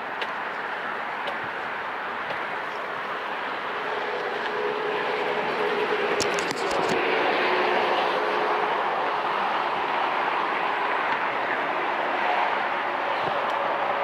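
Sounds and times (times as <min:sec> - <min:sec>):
city traffic: 0:00.0 - 0:14.0
wind: 0:00.0 - 0:14.0.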